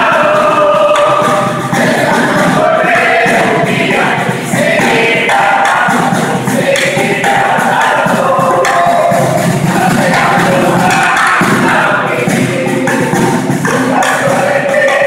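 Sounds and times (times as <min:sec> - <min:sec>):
chorus singing in unison: 0:00.0 - 0:15.0
drum beats: 0:00.0 - 0:15.0.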